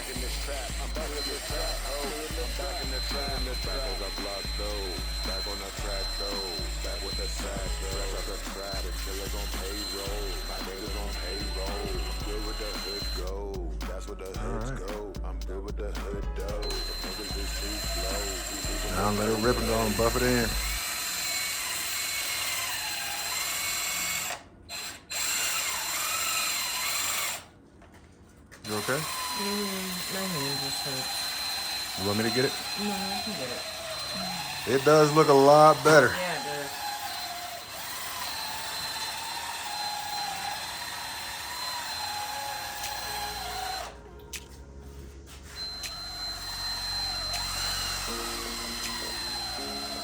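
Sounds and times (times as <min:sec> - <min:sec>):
power drill whining: 0:00.0 - 0:13.5, 0:16.5 - 0:27.5, 0:28.5 - 0:44.1, 0:45.3 - 0:50.0.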